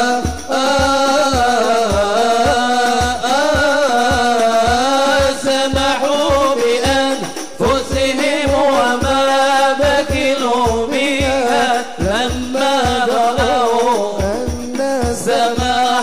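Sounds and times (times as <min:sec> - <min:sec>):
hand drums beating: 0:00.0 - 0:16.0.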